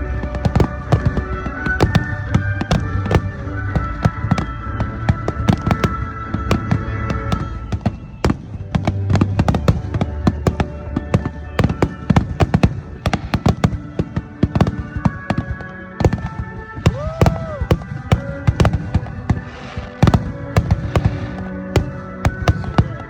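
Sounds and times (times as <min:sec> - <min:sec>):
fireworks bangs and crackles: 0:00.0 - 0:23.0
music: 0:00.0 - 0:23.0.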